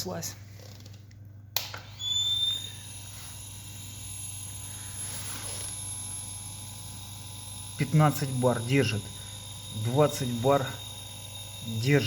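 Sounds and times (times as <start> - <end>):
air compressor running: 1.9 - 12.0.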